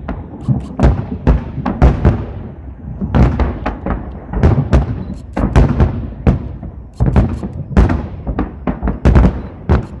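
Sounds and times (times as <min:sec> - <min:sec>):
fireworks bursting with booms: 0:00.0 - 0:10.0.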